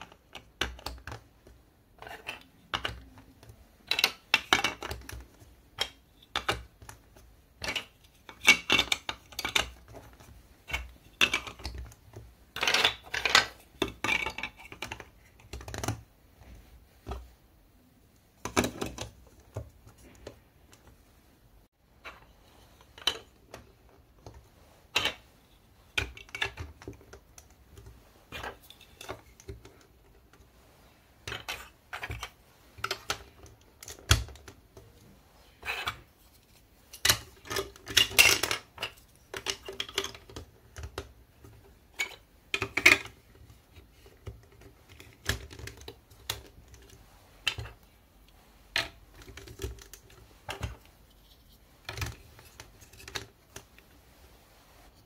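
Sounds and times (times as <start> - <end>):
plastic blocks clicking and clacking: 0.0 - 17.3, 18.4 - 20.9, 22.0 - 30.5, 31.2 - 47.9, 48.7 - 53.8.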